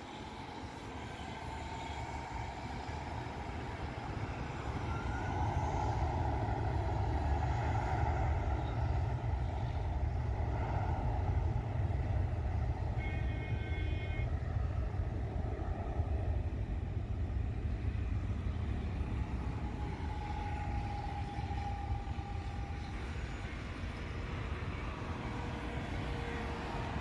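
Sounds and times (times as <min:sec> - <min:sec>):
jet engines at takeoff power: 0:00.0 - 0:27.0
road traffic passing: 0:00.0 - 0:27.0.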